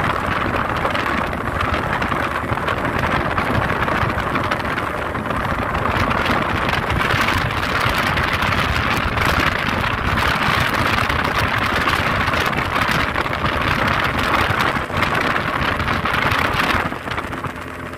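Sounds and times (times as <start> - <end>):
outboard motor running: 0.0 - 17.9
water rushing past hull: 0.0 - 17.9.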